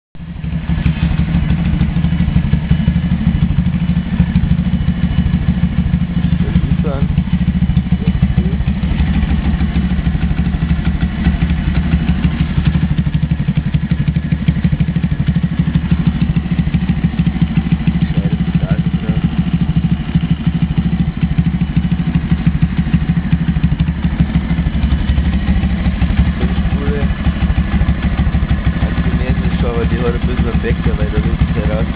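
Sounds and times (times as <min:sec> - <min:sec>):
pit bike engine idling: 0:00.2 - 0:31.9.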